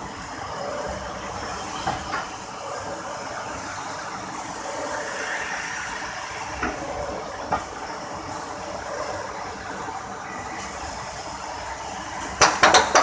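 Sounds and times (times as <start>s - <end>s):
injection moulding machine hissing: 0.5s - 13.0s.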